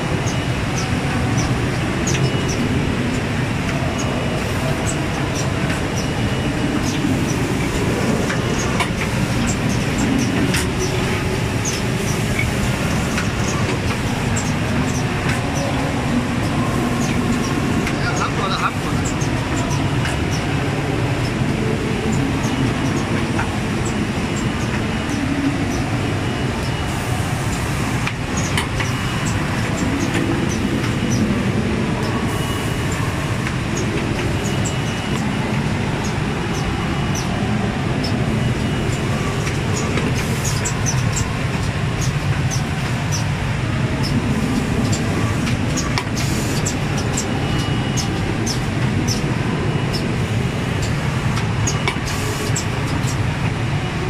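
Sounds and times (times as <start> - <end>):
machine clatter and rumble: 0.0 - 54.0.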